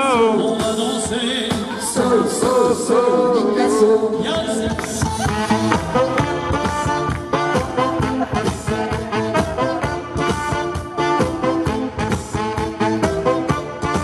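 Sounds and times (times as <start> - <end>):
live band dance music: 0.0 - 14.0.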